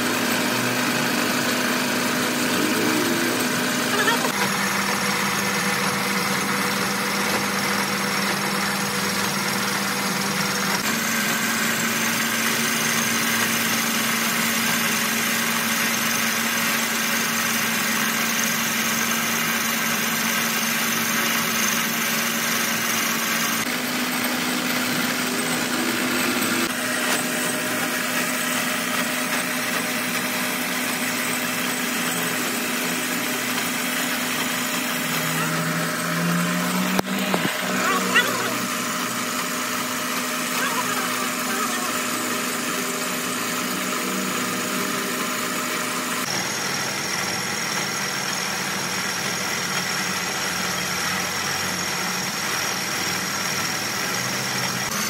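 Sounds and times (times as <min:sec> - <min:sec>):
metal lathe humming: 0:00.0 - 0:55.0.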